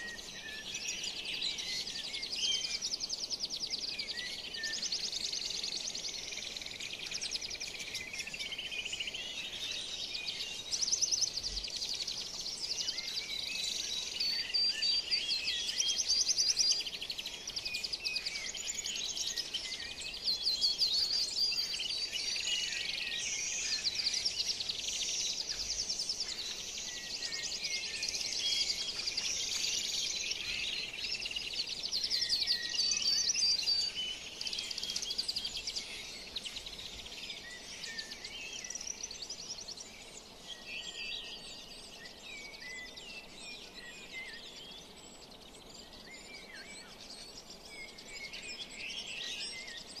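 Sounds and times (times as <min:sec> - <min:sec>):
birds chirping and trilling: 0:00.0 - 0:50.0.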